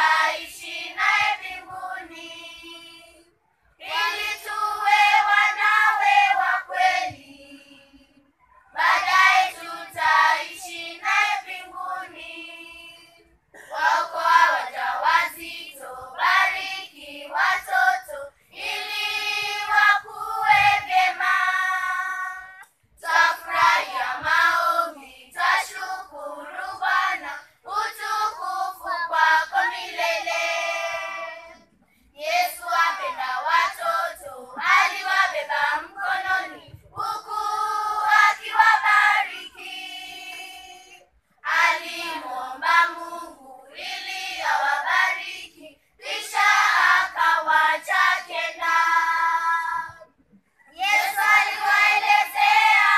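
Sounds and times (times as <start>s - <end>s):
children's choir singing: 0.0s - 3.2s, 3.8s - 8.2s, 8.8s - 50.1s, 50.7s - 52.9s.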